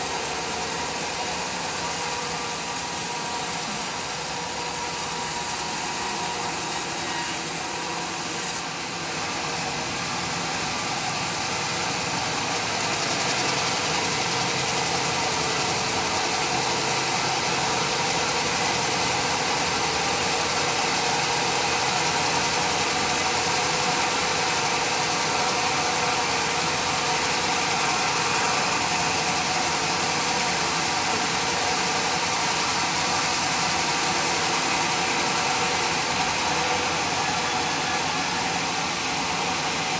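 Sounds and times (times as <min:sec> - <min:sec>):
sawmill drone and hiss: 0:00.0 - 0:39.9.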